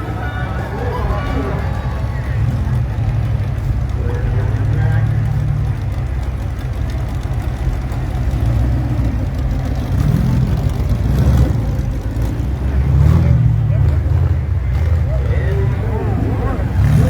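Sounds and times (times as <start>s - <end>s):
car engines rumbling and revving: 0.0s - 17.0s.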